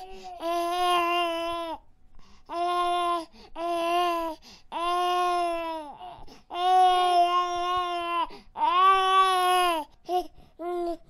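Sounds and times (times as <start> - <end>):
baby crying: 0.0 - 1.8, 2.5 - 11.0.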